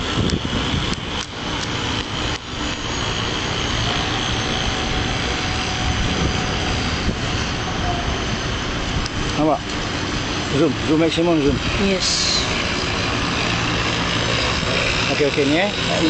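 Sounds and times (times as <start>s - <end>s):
small engine high whine: 0.0s - 16.0s.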